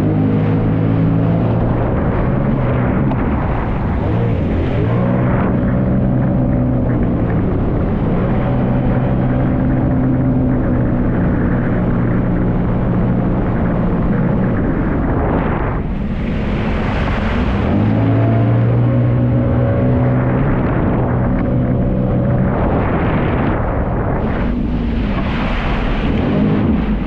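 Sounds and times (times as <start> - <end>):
jet ski engine running: 0.0 - 27.0
rushing wind or spray: 0.0 - 27.0.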